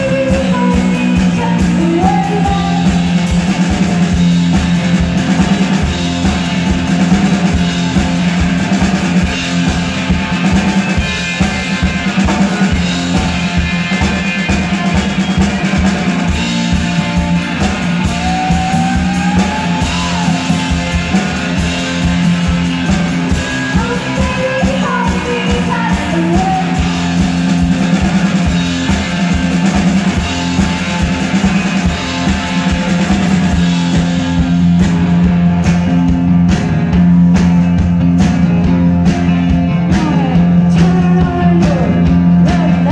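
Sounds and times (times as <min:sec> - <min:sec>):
drum kit: 0:00.0 - 0:42.9
electric guitar: 0:00.0 - 0:42.9.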